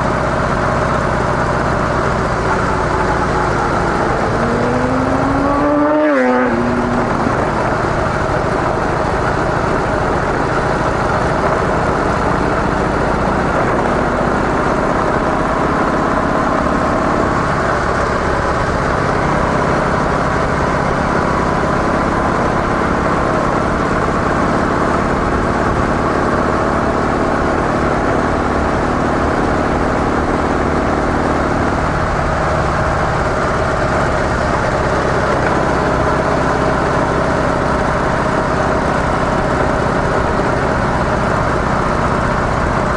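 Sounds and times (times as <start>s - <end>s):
motorcycle engine running steadily: 0.0s - 42.9s.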